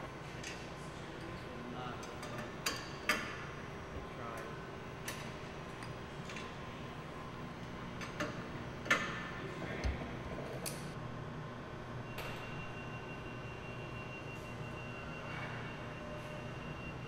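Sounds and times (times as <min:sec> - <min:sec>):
steady workshop hum: 0:00.0 - 0:17.0.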